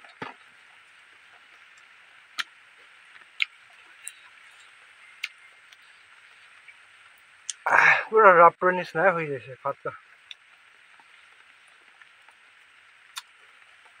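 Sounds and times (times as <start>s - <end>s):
faint high hiss: 0.0s - 14.0s.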